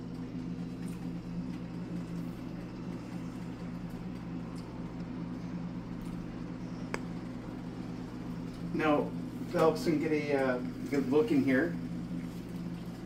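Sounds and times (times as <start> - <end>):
appliance motor humming: 0.0 - 13.0.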